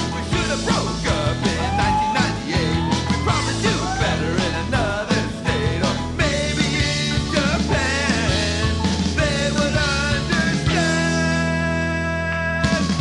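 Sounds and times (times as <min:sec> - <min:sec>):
lead singer singing: 0:00.0 - 0:13.0
rock band playing: 0:00.0 - 0:13.0.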